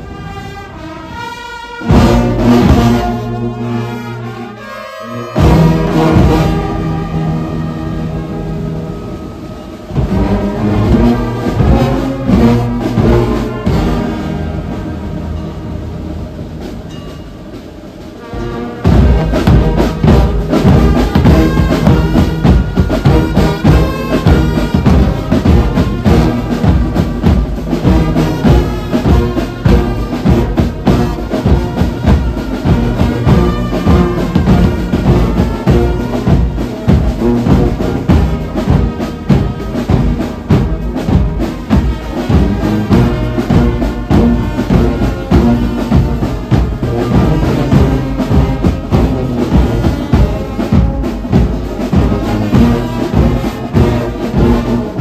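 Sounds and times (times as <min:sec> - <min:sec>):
brass band playing: 0:00.0 - 0:55.0
steady drum beat: 0:01.8 - 0:04.5, 0:05.2 - 0:55.0.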